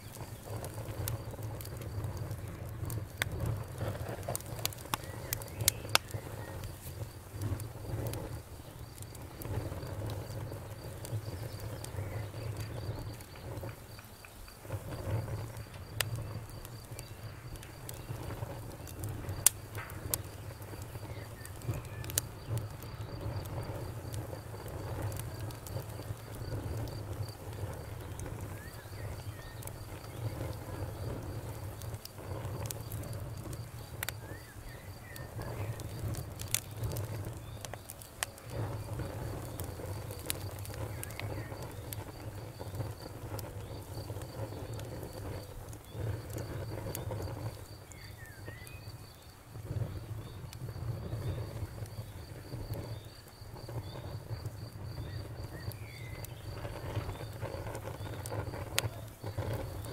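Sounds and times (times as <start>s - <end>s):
burning logs rumbling: 0.0s - 59.9s
fire crackling: 0.0s - 59.9s
fire popping: 0.0s - 59.9s.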